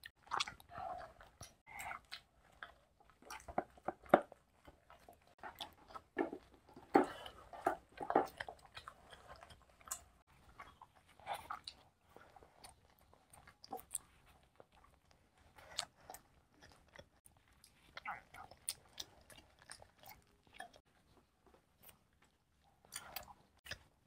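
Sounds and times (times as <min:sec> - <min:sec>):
people chewing and biting food: 0:00.0 - 0:24.0.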